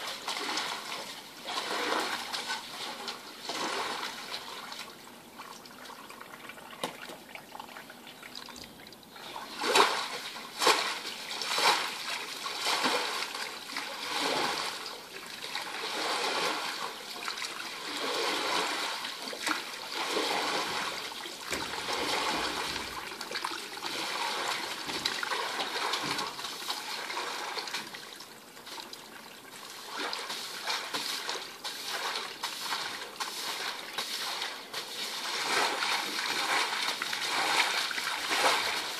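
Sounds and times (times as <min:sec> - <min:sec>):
push broom sweeping water: 0:00.0 - 0:05.0, 0:09.2 - 0:29.0, 0:29.7 - 0:38.9.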